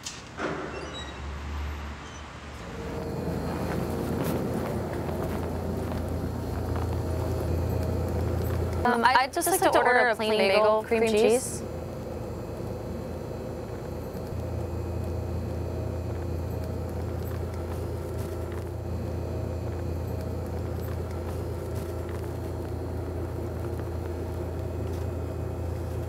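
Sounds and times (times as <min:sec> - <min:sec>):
low machine hum: 0:02.4 - 0:26.0.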